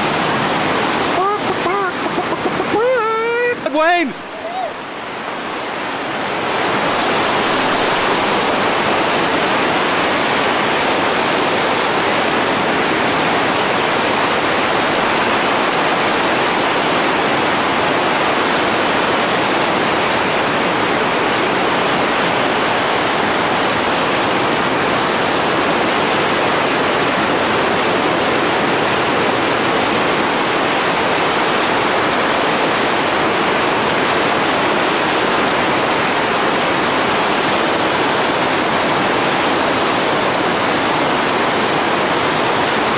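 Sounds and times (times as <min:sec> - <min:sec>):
whitewater rapids rushing: 0:00.0 - 0:42.9.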